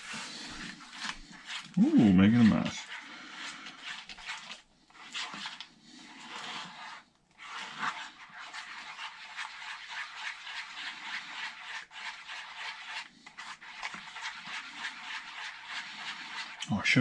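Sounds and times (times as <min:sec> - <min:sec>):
fork whisking batter in bowl: 0:00.0 - 0:17.0.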